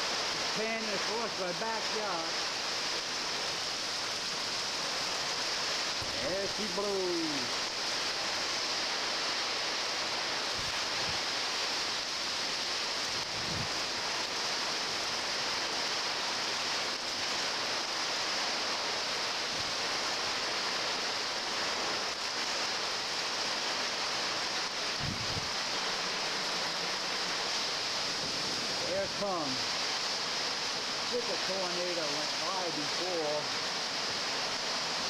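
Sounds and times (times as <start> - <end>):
wind and driving rain: 0.0 - 35.0.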